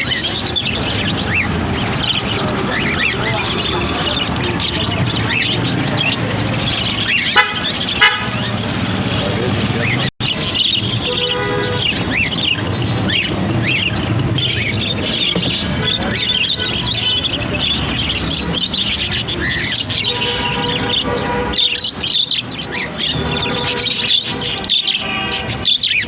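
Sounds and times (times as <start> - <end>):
parrots chirping: 0.0 - 26.0.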